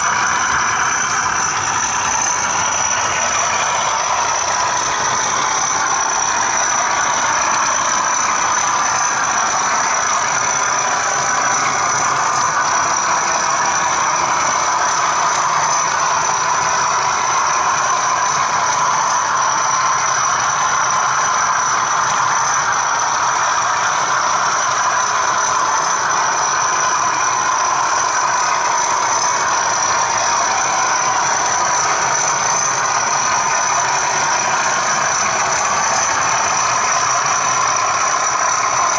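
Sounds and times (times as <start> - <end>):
constant high whine: 0.0 - 38.9
diesel engine sound from small speaker: 0.0 - 38.9
model train wagon rolling on track: 0.0 - 38.9.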